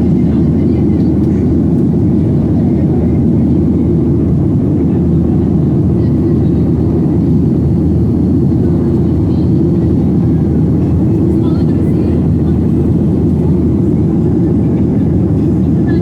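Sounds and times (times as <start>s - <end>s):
airplane cabin roar: 0.0s - 16.0s.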